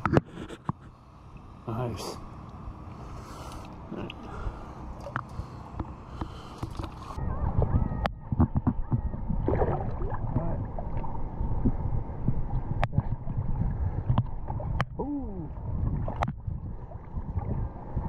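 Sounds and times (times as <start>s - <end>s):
water sloshing and gurgling: 2.2s - 18.0s.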